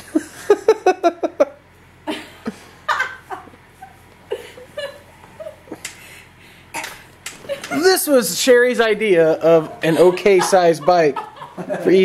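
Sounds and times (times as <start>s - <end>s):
people laughing: 0.0s - 6.2s, 7.3s - 8.3s, 9.2s - 12.0s.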